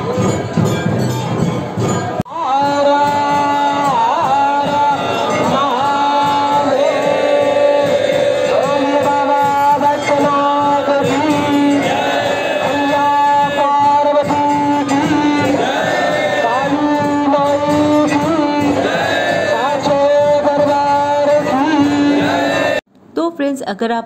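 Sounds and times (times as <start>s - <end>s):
instrumental accompaniment: 0.0s - 22.8s.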